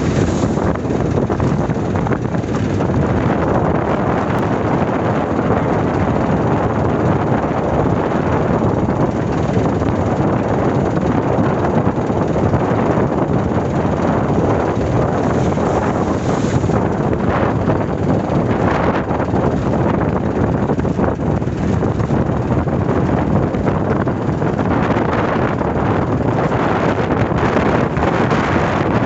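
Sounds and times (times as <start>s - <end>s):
rough sea rushing: 0.0s - 29.0s
wind buffeting microphone: 0.0s - 29.0s.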